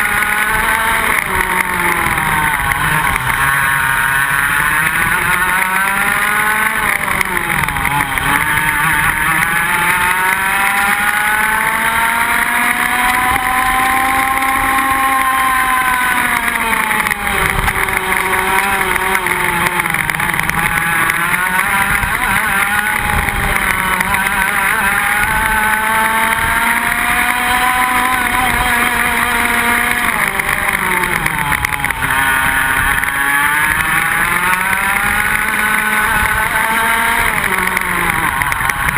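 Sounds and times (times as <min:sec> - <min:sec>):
kart engines revving: 0:00.0 - 0:38.9.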